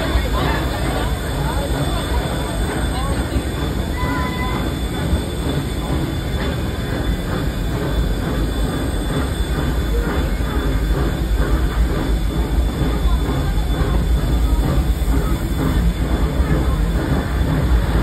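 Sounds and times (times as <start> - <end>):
train wheels clattering on rails: 0.0 - 18.0
wheel squeal: 0.0 - 18.0.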